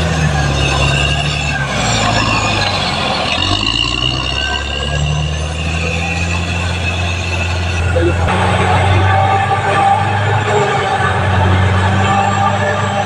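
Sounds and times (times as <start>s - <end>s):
bulldozer diesel engine running: 0.0s - 13.0s
high whine: 0.0s - 13.0s.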